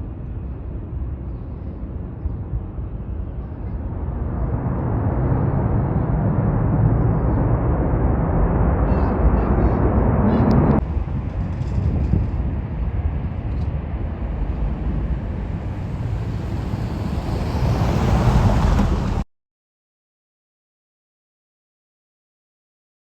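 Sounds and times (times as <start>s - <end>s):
jet engine roar: 0.0s - 19.2s
wind on microphone: 0.0s - 19.2s.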